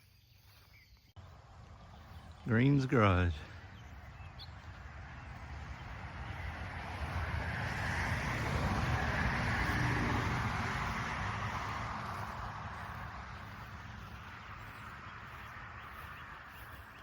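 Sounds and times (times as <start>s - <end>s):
vehicle passing on highway: 1.2s - 17.0s.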